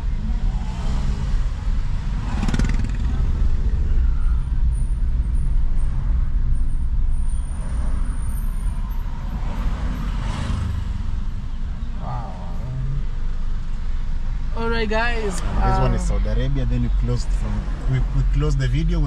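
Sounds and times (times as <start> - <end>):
passing vehicle: 0.0 - 19.0
road and engine rumble in car: 0.0 - 19.0.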